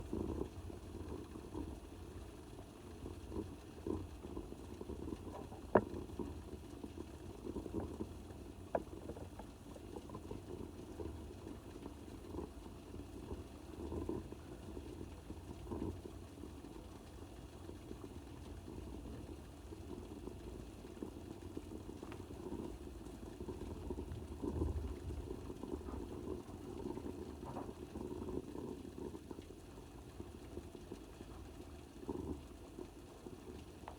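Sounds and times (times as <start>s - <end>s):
water boiling: 0.0s - 33.9s.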